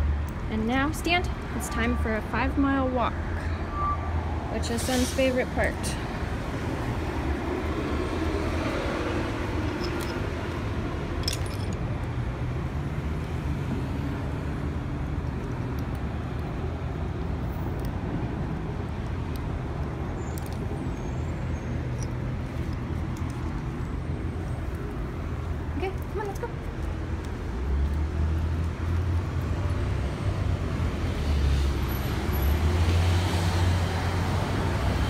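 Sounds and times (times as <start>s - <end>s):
idling engines and traffic: 0.0s - 35.0s.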